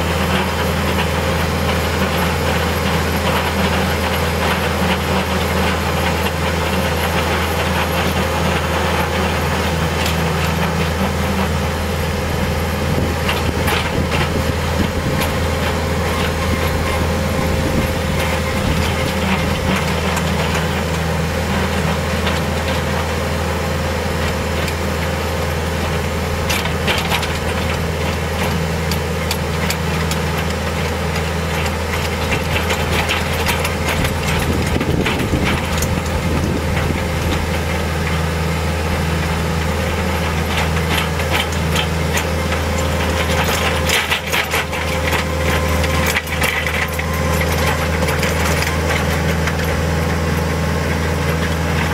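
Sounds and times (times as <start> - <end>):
tractor engine running steadily: 0.0 - 51.9.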